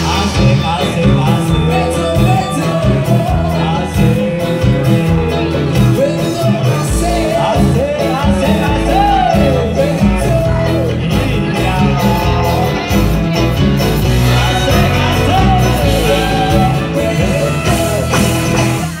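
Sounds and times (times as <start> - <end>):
lead vocals singing: 0.0 - 19.0
live band playing: 0.0 - 19.0.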